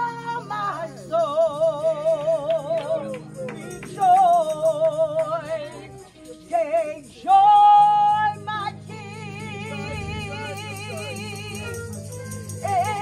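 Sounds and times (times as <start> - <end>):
held instrumental chords: 0.0 - 13.0
woman singing gospel: 0.0 - 13.0.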